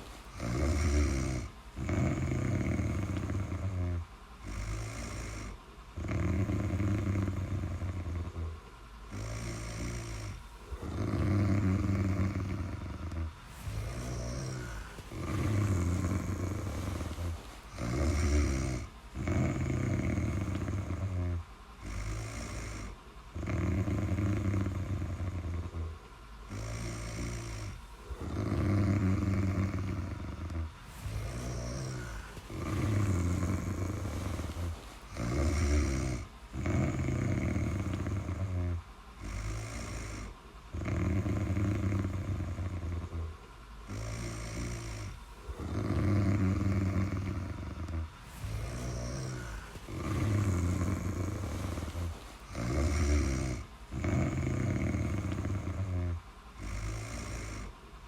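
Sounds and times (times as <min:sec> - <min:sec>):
rhythmic snoring: 0:00.0 - 0:58.0.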